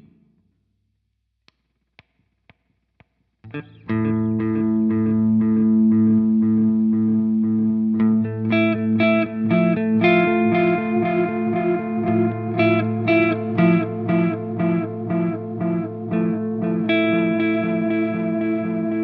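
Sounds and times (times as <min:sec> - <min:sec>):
electric guitar with delay: 0:03.5 - 0:19.0.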